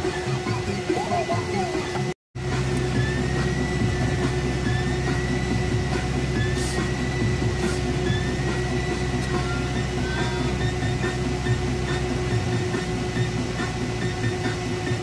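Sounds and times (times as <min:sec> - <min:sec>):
vehicle rumble and hum: 0:00.5 - 0:15.0.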